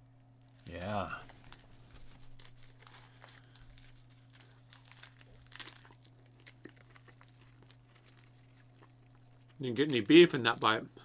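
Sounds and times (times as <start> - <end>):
crunchy chewing: 0.6 - 10.9.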